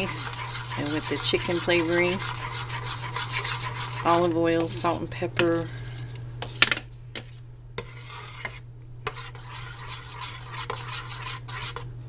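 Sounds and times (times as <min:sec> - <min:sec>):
metal spoon stirring soup: 0:00.0 - 0:11.9.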